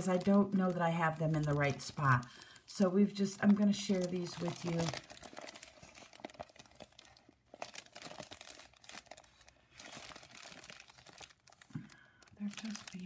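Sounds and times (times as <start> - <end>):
plastic sheet crinkling: 0.0 - 13.0.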